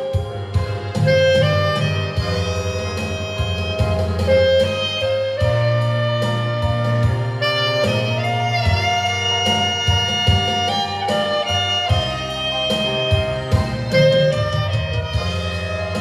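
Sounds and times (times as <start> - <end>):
band backing: 0.0 - 16.0
saxophone melody: 0.0 - 16.0.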